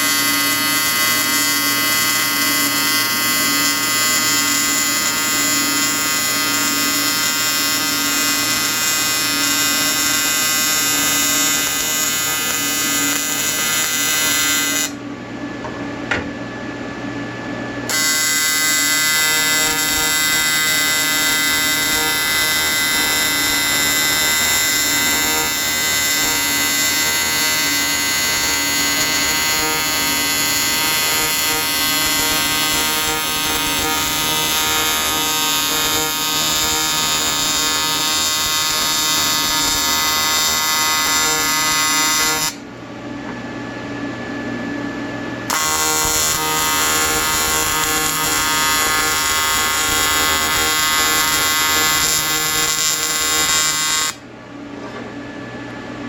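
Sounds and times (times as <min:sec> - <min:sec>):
welding arc buzzing: 0:00.0 - 0:15.0, 0:17.9 - 0:42.7, 0:45.5 - 0:54.3.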